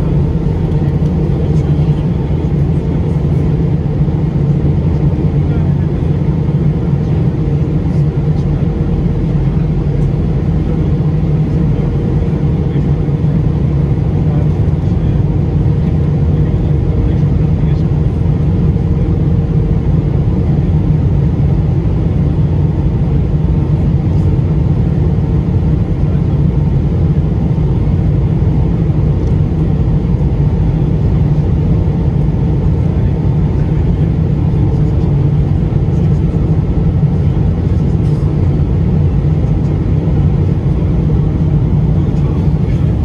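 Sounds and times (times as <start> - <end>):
jet airliner cabin roar: 0.0 - 43.0.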